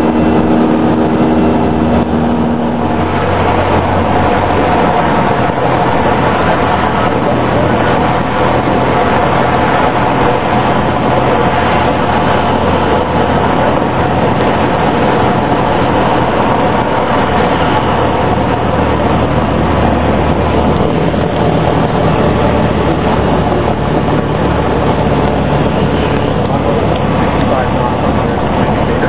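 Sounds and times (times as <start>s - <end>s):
light aircraft engine drone: 0.0s - 29.0s.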